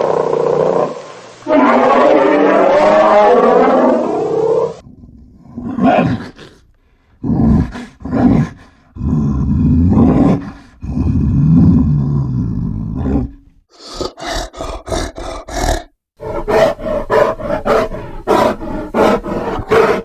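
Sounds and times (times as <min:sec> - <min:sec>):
bear roaring and growling: 0:00.0 - 0:20.0.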